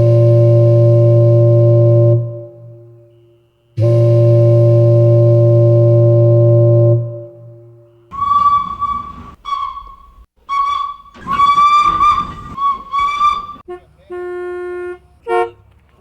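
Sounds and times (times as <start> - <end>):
steam whistle blasts: 0.0 - 13.8
low horn tone: 0.0 - 15.6.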